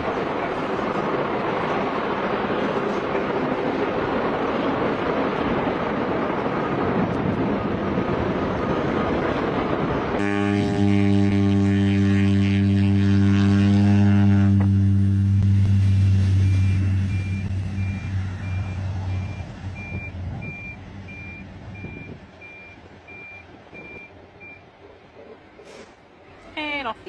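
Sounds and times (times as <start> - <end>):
engine rushing roar: 0.0 - 25.3
engine low humming drone: 0.0 - 27.0.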